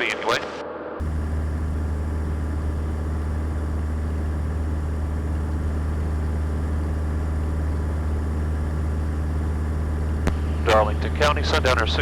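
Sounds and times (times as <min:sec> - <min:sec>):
airplane engine and propeller drone: 0:01.0 - 0:12.0.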